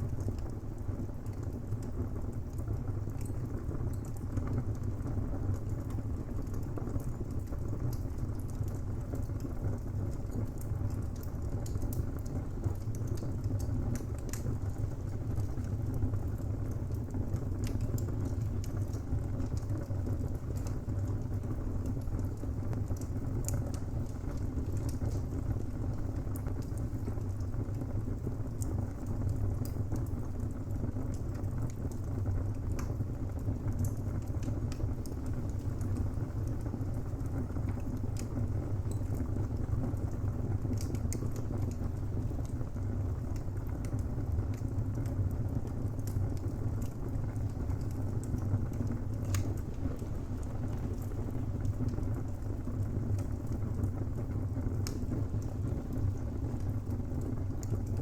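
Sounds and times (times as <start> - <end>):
burning wood crackling and popping: 0.0 - 58.0
low rumble of flames: 0.0 - 58.0.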